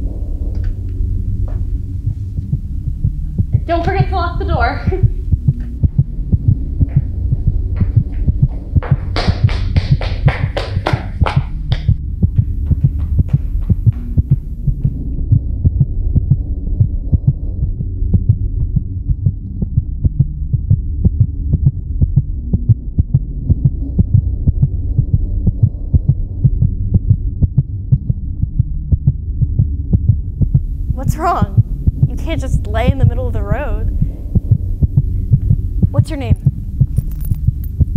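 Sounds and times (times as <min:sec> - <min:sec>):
continuous low hum: 0:00.0 - 0:37.9
heartbeat thumping: 0:00.0 - 0:37.9.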